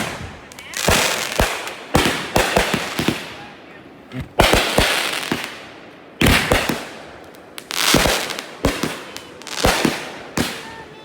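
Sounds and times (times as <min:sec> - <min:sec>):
fireworks bangs with crackling: 0:00.0 - 0:11.0.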